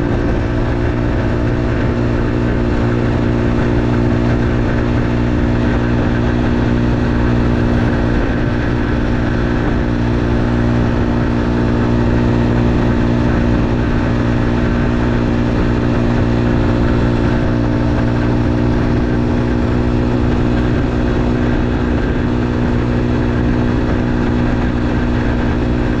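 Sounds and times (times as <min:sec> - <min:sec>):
motorcycle engine running steadily: 0:00.0 - 0:26.0.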